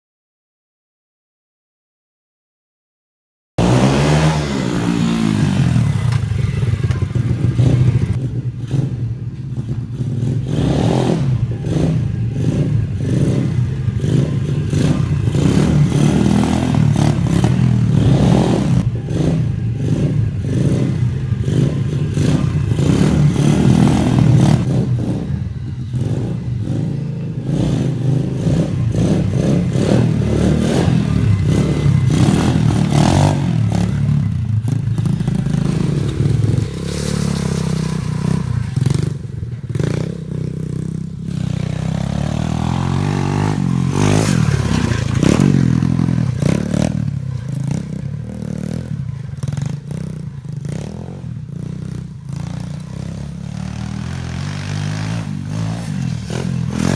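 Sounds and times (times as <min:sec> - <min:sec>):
pit bike engine revving: 0:03.6 - 0:09.0, 0:10.0 - 0:56.9.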